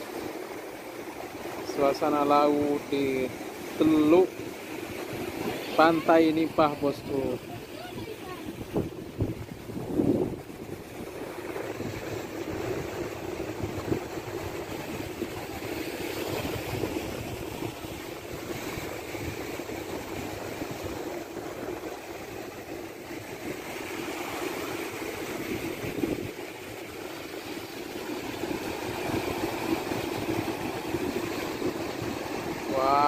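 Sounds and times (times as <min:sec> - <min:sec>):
sea waves: 0:00.0 - 0:33.0
wind on microphone: 0:02.6 - 0:33.0.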